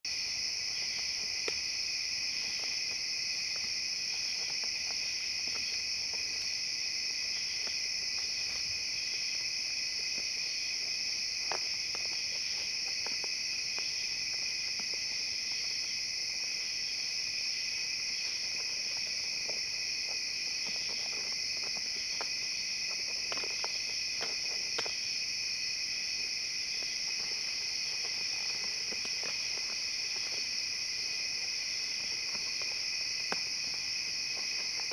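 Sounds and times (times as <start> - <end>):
night insects chorus: 0.1 - 34.9.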